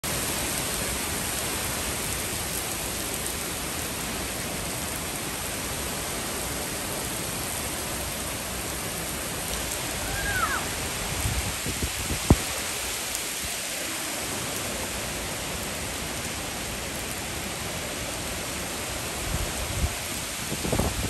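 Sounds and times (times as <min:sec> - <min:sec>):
heavy rain on pavement: 0:00.0 - 0:21.0.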